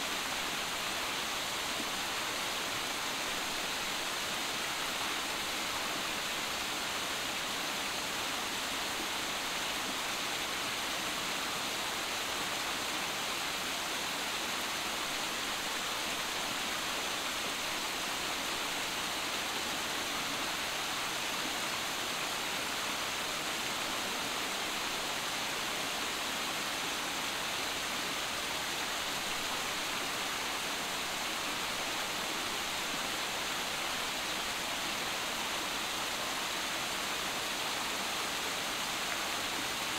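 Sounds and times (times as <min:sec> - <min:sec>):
waterfall rushing over boulders: 0:00.0 - 0:39.9.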